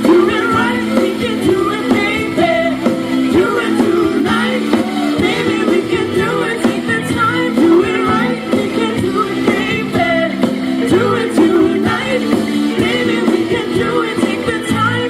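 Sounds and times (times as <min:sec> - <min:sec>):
live band playing pop-rock: 0:00.0 - 0:15.0
person singing: 0:00.0 - 0:15.0.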